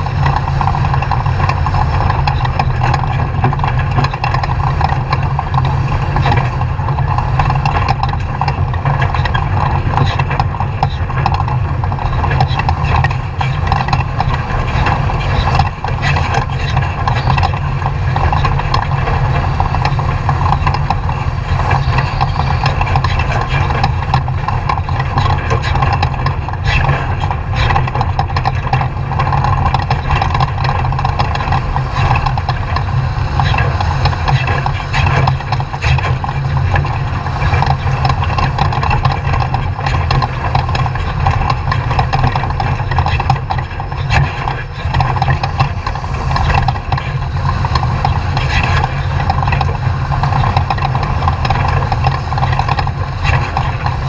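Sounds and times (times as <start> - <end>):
knocks and rattles: 0.0 - 54.0
rush of noise: 0.0 - 54.0
truck engine running loudly: 0.0 - 54.0.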